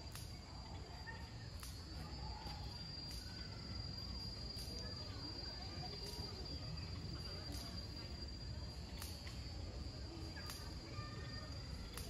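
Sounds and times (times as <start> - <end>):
insects droning whine: 0.0 - 12.0.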